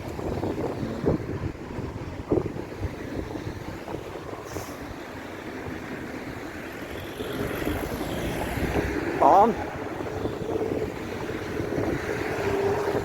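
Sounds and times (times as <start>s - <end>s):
road traffic rumble: 0.0s - 13.0s
wind buffeting microphone: 0.0s - 13.0s.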